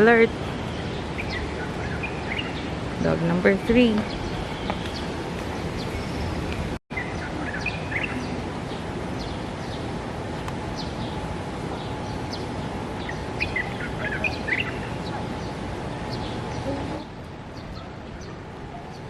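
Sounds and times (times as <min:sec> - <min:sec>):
outdoor background noise: 0:00.0 - 0:19.0
small birds chirping: 0:00.0 - 0:19.0.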